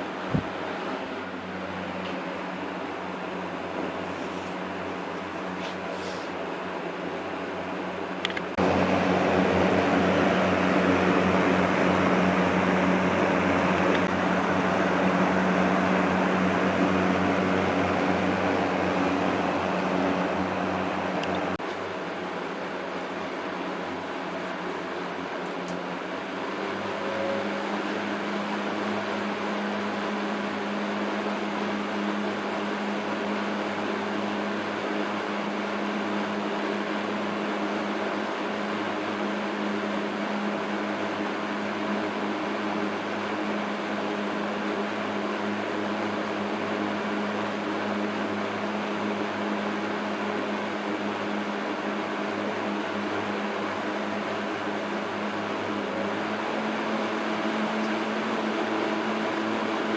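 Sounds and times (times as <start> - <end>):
box fan whirring: 0.0 - 59.9
fan motor hum: 0.0 - 59.9.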